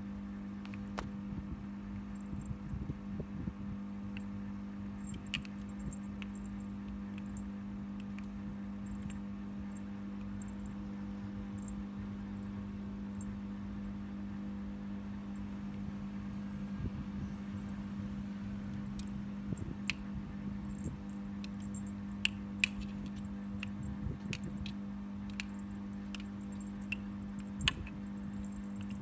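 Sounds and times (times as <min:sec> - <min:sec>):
low room hum with hiss: 0:00.0 - 0:29.0.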